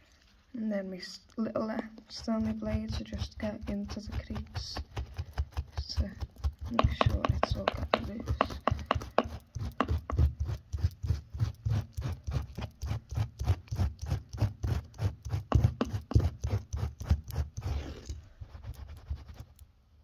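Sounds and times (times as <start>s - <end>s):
knife blade scraping carpet: 2.2s - 19.0s.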